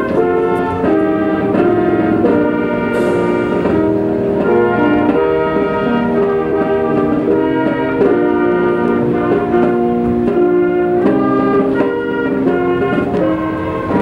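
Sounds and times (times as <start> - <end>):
brass band playing slow chords: 0.0 - 14.0.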